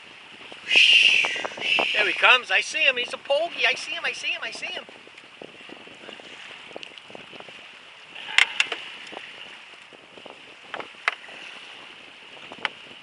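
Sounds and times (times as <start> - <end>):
wind and water hiss: 0.0 - 13.0.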